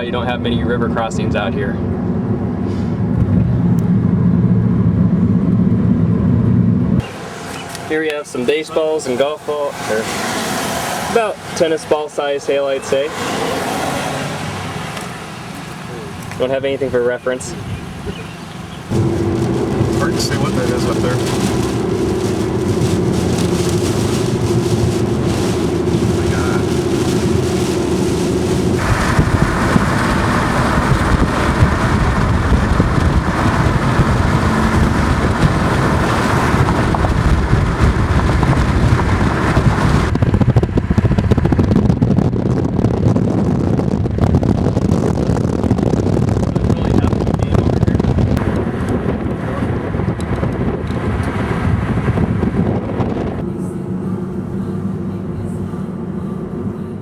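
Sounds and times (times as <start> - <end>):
wind rushing past microphone: 0.0 - 55.1
car engine and road noise: 0.0 - 57.0.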